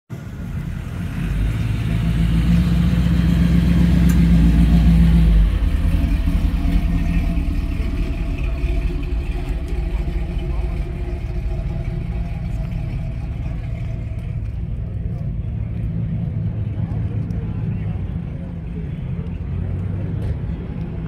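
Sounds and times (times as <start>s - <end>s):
car engine rumbling past: 0.1s - 21.0s.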